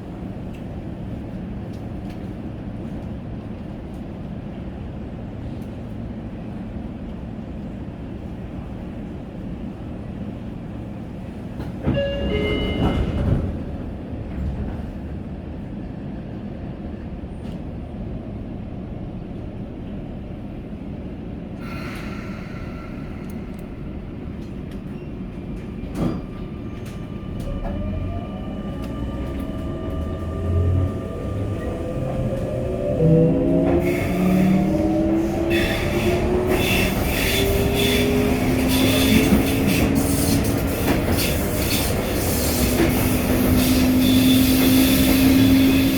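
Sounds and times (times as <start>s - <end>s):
train rumbling on track: 0.0s - 45.9s.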